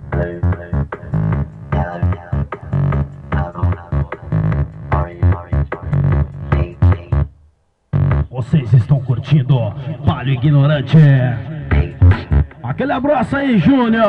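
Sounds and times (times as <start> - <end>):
electronic dance music: 0.0 - 7.2, 8.1 - 14.0.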